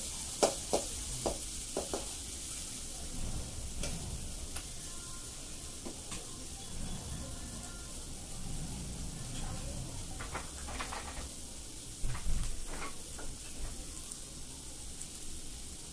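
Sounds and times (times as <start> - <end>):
food sizzling in pan: 0.0 - 15.9.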